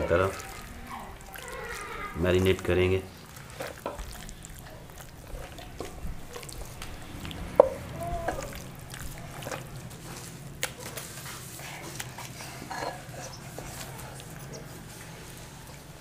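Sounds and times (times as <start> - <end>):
wet squelching of raw chicken: 0.0 - 16.0.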